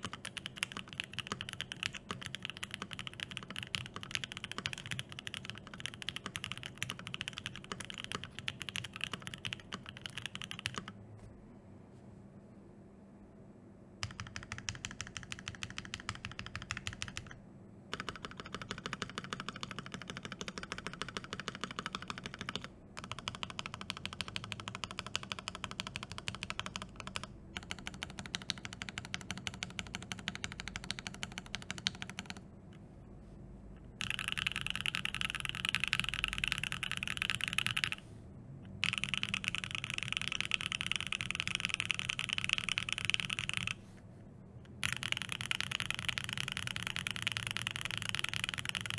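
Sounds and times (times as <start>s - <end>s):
mechanical keyboard typing: 0.0s - 11.0s, 14.0s - 32.5s, 33.9s - 38.0s, 38.7s - 43.8s, 44.7s - 48.9s.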